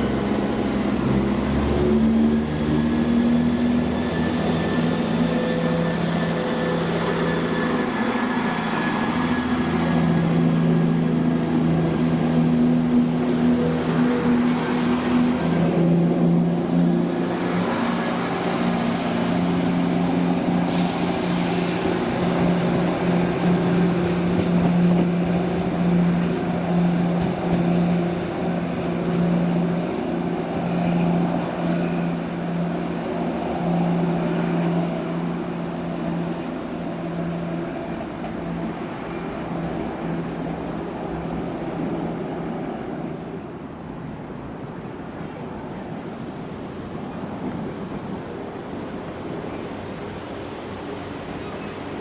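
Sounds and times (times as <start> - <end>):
diesel train engine drone: 0.0 - 52.0.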